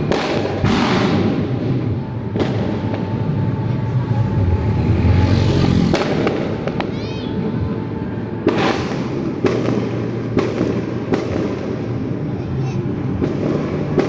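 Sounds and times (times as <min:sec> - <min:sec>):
firecrackers banging: 0:00.0 - 0:14.0.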